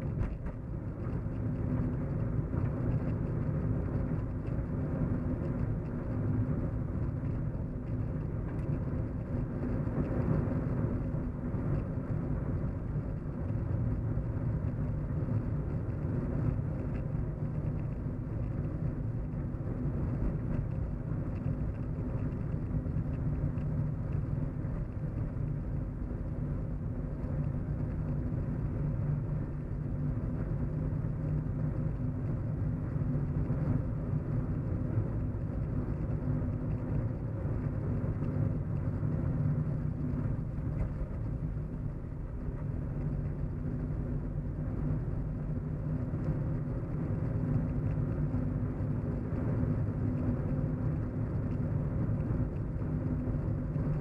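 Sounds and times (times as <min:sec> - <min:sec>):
road rumble inside moving car: 0:00.0 - 0:54.0.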